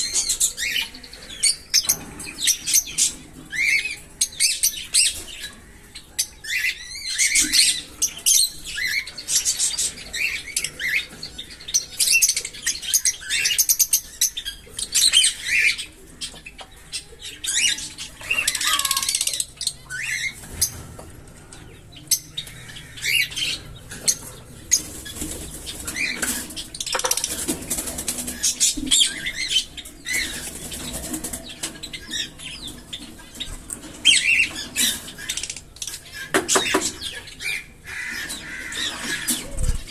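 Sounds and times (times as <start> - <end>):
parrots chattering: 0.0 - 39.9.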